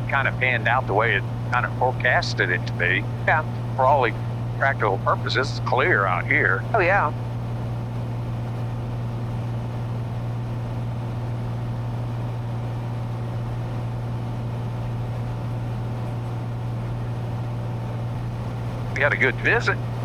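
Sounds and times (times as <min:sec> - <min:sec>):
light aircraft engine droning: 0:00.0 - 0:20.0.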